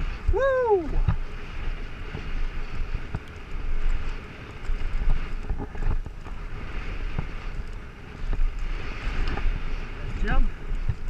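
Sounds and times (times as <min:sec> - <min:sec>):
bike tyres rumbling on dirt: 0:00.0 - 0:11.0
wind rushing over microphone: 0:00.0 - 0:11.0.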